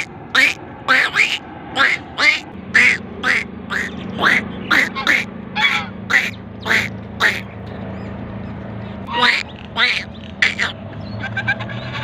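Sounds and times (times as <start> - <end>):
ducks quacking: 0.0 - 7.5, 9.0 - 12.0.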